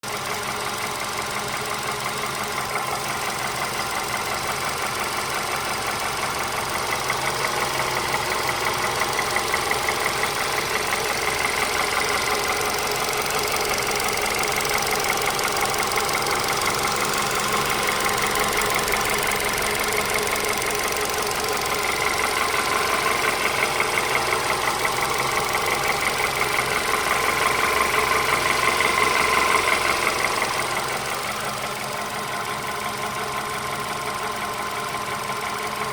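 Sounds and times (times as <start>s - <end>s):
engine running with fast ticking: 0.0s - 35.9s.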